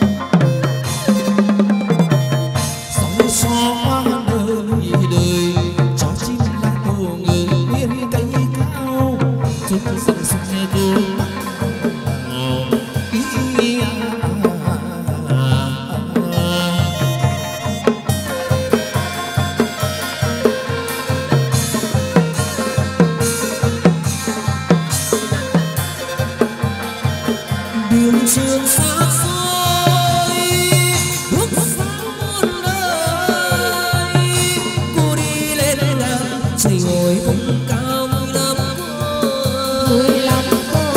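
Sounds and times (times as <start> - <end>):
steady drum beat: 0.0 - 40.9
traditional ensemble melody: 0.0 - 40.9.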